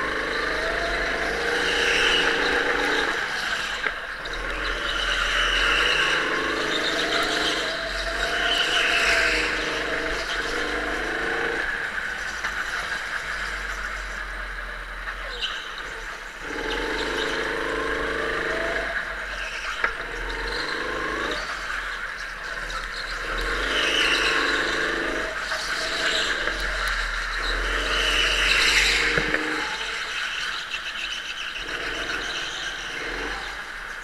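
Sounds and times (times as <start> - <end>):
go-kart engine revving: 0.0 - 34.0.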